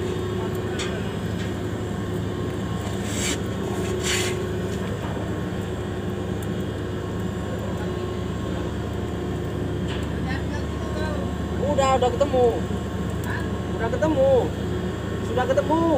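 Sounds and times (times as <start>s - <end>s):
marine engine drone: 0.0s - 15.9s.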